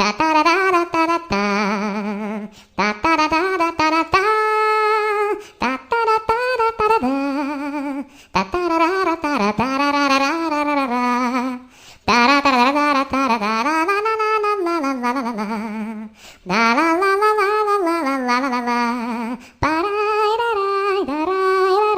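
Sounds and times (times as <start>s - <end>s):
woman humming a wordless melody: 0.0s - 21.9s.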